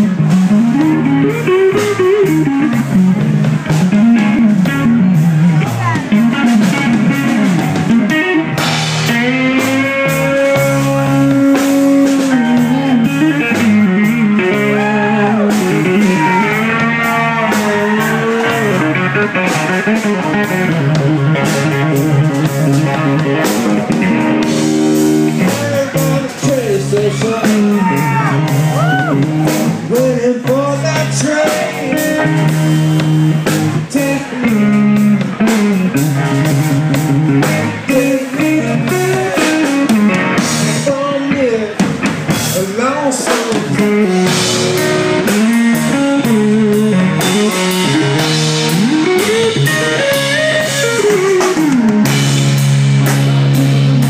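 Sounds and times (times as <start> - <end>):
electric guitar solo: 0.0 - 30.0, 30.8 - 42.4, 43.5 - 54.0
bass and drums: 0.0 - 54.0.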